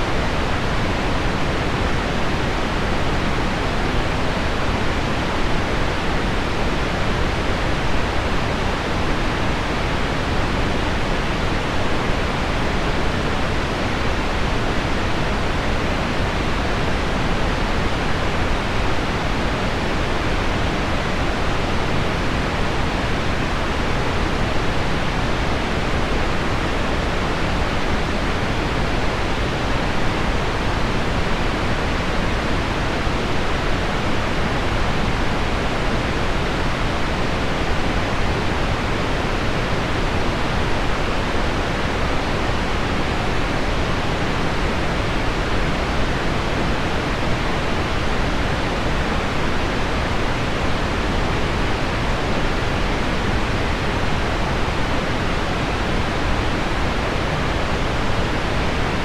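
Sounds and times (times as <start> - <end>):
pink noise: 0.0 - 59.0.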